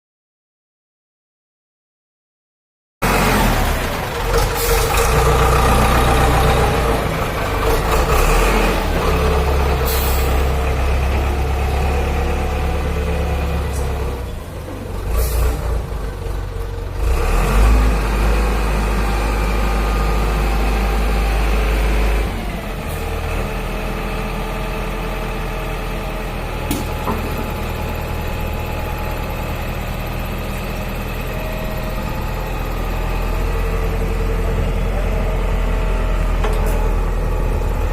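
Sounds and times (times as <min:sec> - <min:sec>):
diesel loader engine running: 0:03.0 - 0:37.9.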